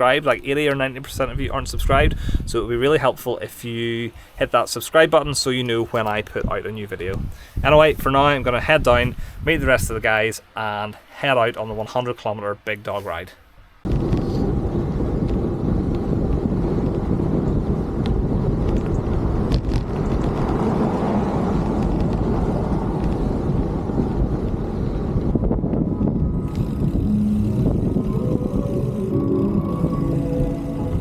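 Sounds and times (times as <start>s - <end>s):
wind buffeting microphone: 0.0s - 3.2s, 4.1s - 10.2s, 13.8s - 31.0s.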